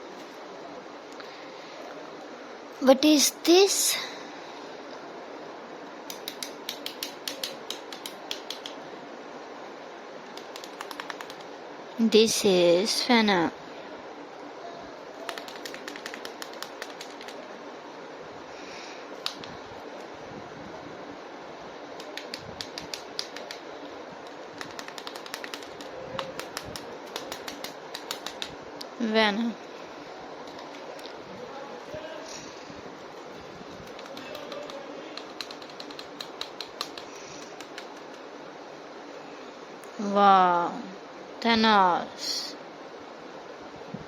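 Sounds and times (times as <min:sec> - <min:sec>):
steady low hiss: 0:00.0 - 0:44.0.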